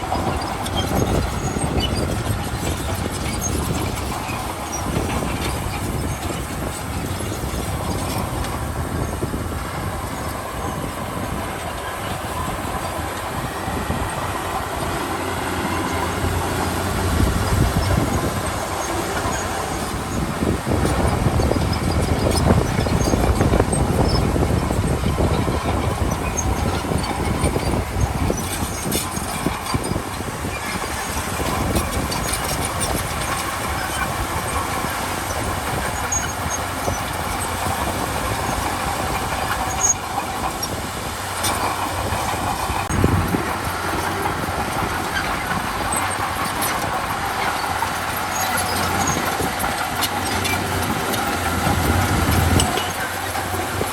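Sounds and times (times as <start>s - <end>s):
bulldozer diesel engine: 0.0s - 53.9s
steel tracks clattering: 0.0s - 53.9s.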